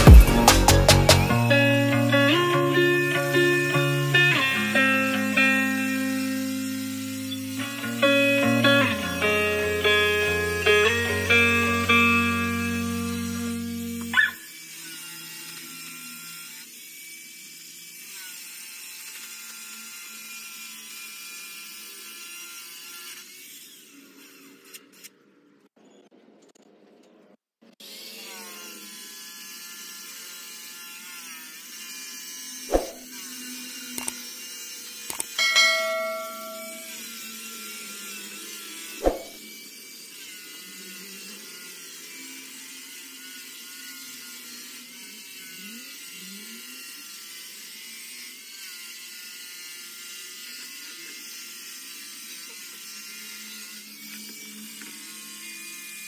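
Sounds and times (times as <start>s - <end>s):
power tool motor whining: 0.0s - 25.6s, 27.8s - 56.0s.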